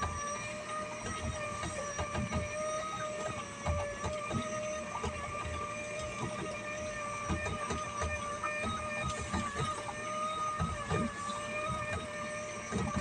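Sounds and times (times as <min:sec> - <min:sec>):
motor whining: 0:00.0 - 0:13.0.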